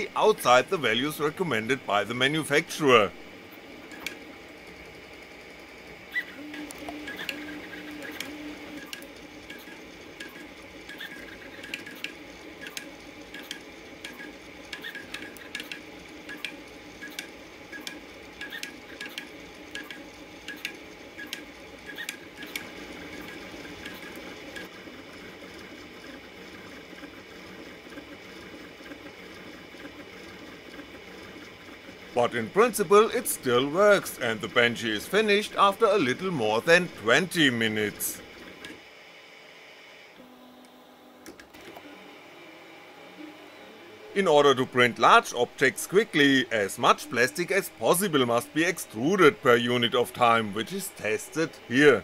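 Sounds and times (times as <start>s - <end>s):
sharp printer ticks: 0.0s - 38.8s, 44.2s - 52.0s
stepper motors whirring: 0.0s - 38.9s, 40.1s - 52.0s.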